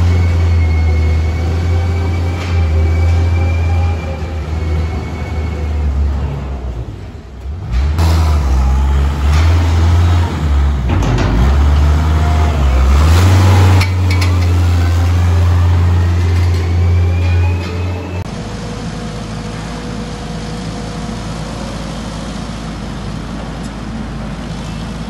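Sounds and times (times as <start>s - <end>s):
loader diesel engine running: 0.0s - 25.0s.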